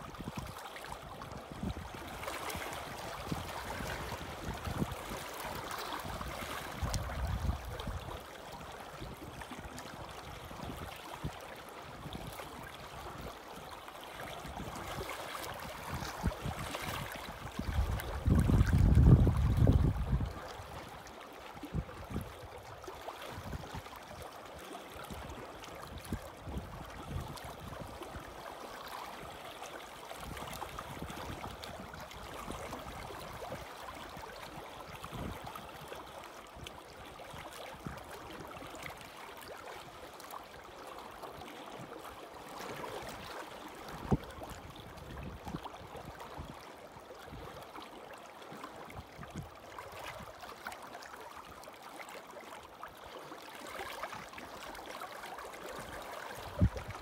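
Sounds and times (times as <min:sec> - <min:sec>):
waves lapping against rocks: 0:00.0 - 0:57.0.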